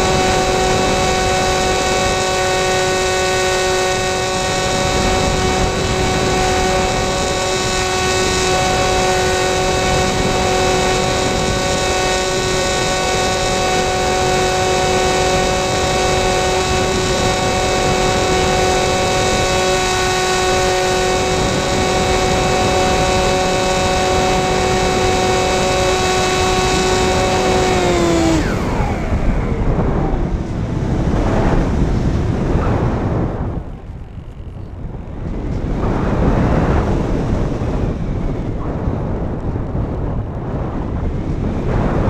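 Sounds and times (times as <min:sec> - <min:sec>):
electric motor and propeller whining: 0:00.0 - 0:42.0
wind rushing over microphone: 0:00.0 - 0:42.0.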